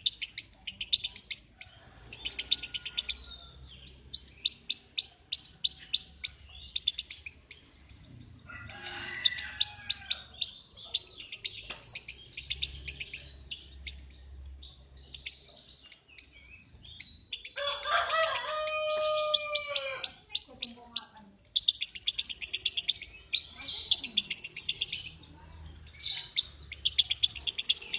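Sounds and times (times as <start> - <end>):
lovebird chirping and chattering: 0.0 - 27.9.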